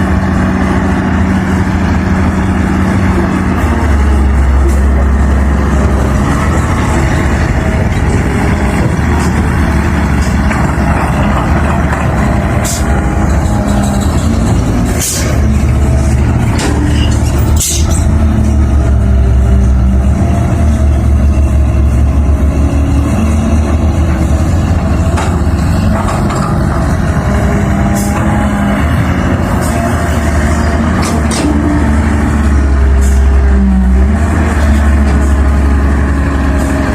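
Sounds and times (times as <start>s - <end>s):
excavator diesel engine rumbling: 0.0s - 36.9s.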